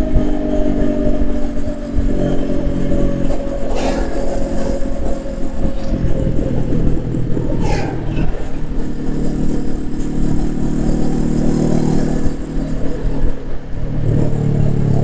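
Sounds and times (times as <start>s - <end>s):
motorcycle engine exhaust note: 0.0s - 15.0s.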